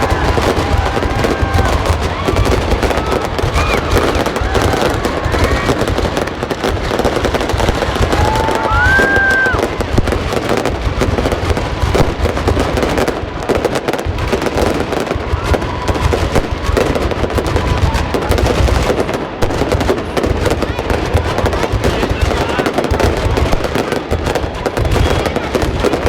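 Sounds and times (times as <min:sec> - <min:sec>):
fireworks banging and crackling: 0:00.0 - 0:26.0.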